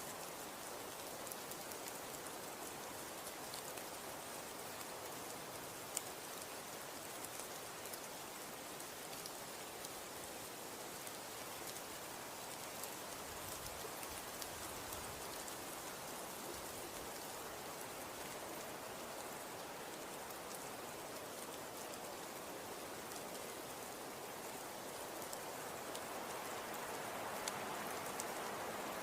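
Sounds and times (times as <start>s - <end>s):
wind: 0.0s - 29.0s.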